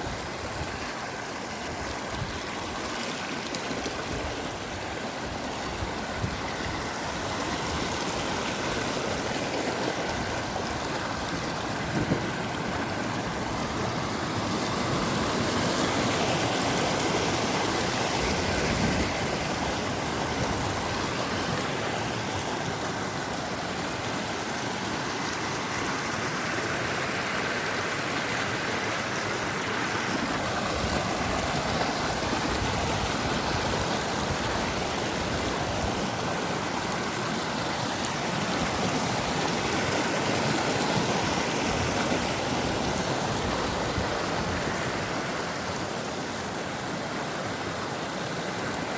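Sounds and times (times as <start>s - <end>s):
rushing water: 0.0s - 48.9s.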